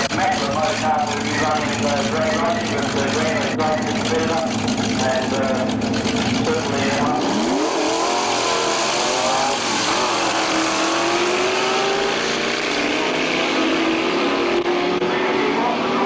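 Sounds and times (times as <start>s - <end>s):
drag cars accelerating: 0.0s - 16.0s.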